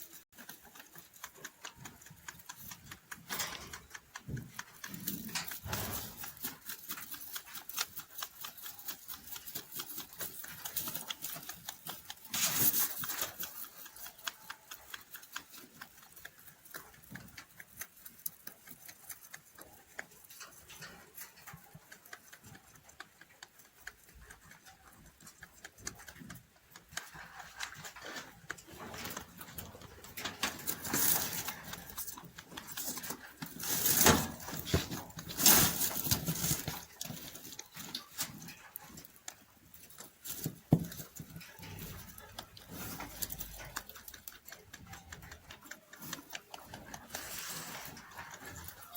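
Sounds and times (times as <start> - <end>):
rabbit chewing hay: 0.0 - 48.9.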